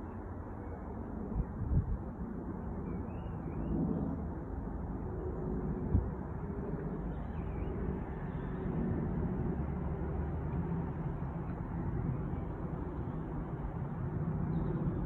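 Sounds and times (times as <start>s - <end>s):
distant jet engine rumble: 0.0s - 15.0s.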